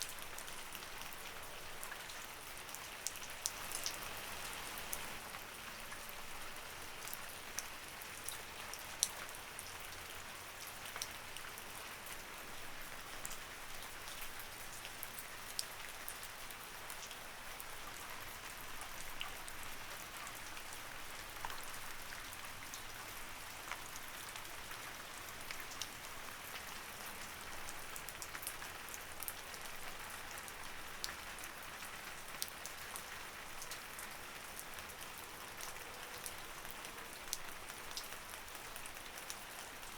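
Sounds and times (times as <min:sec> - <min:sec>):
light rain hiss: 0:00.0 - 0:39.9.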